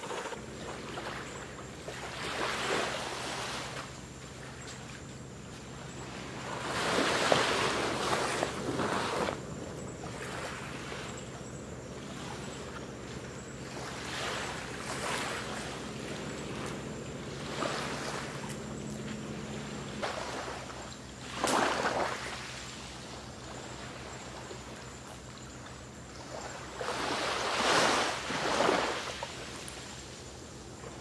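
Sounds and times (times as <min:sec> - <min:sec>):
small waves washing against shore: 0:00.0 - 0:31.0.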